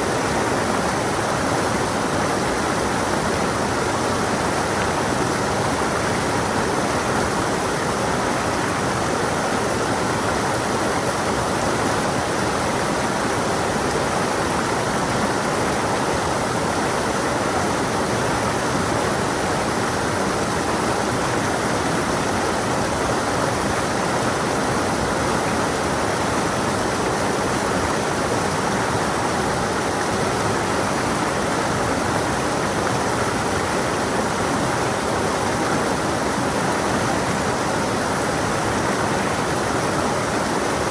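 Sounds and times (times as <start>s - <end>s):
water flowing over rocks: 0.0s - 40.9s.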